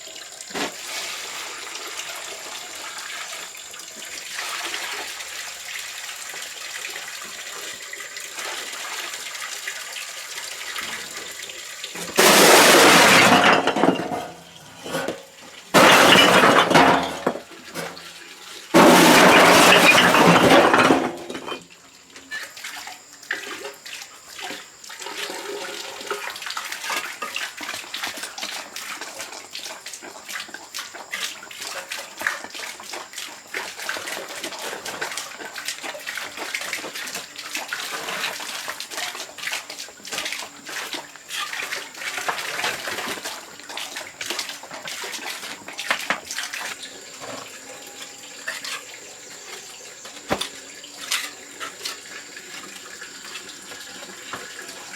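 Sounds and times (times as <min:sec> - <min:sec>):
water splashing and pouring: 0:00.0 - 0:18.0, 0:24.4 - 0:54.9.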